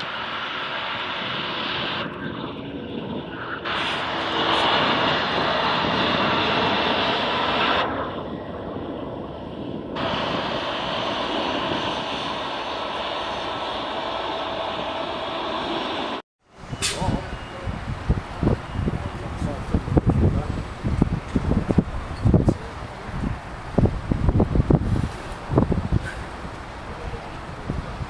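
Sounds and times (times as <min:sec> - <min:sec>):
jet engines rushing: 0:00.0 - 0:28.0.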